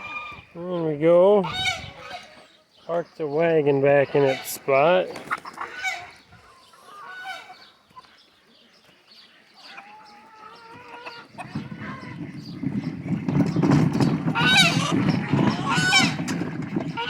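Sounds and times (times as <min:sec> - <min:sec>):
poultry calling: 0:00.0 - 0:08.4, 0:09.2 - 0:17.0
chickens clucking: 0:00.0 - 0:17.0.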